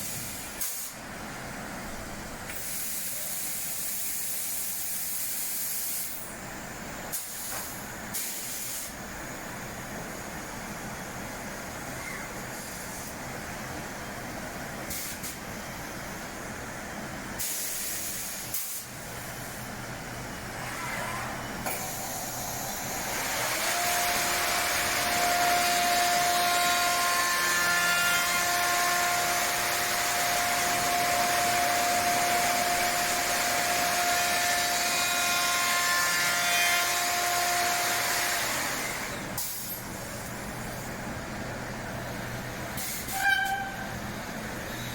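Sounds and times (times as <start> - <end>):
machine hiss of air: 0.0 - 1.1, 2.5 - 13.4, 14.5 - 19.8, 20.5 - 41.0, 41.9 - 44.9.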